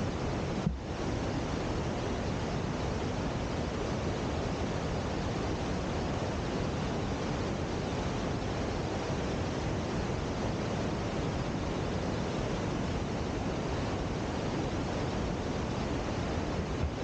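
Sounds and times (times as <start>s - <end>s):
waterfall and river rushing: 0.0s - 17.0s.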